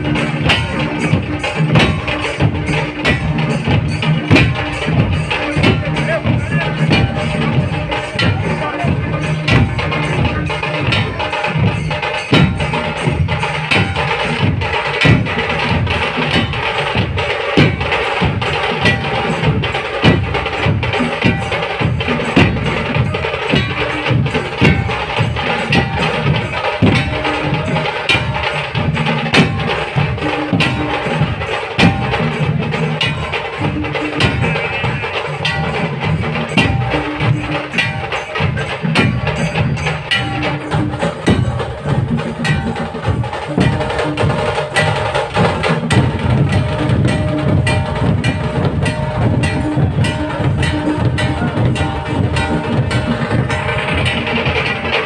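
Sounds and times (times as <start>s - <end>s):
barrel drums playing: 0.0s - 55.0s.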